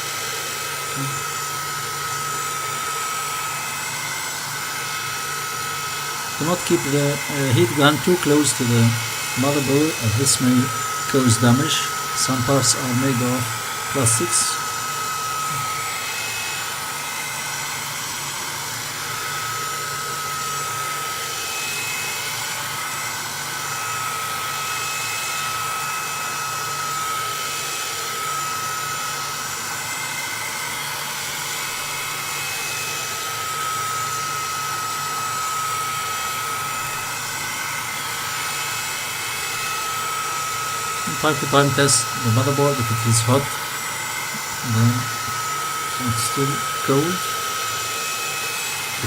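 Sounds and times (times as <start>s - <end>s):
hair dryer blowing air: 0.0s - 49.0s
hair dryer motor whine: 0.0s - 49.0s.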